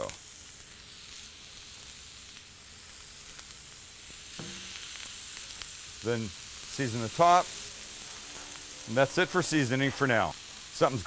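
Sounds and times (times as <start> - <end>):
meat patties sizzling on griddle: 0.0 - 11.0
onions sizzling in hot oil: 0.0 - 11.0.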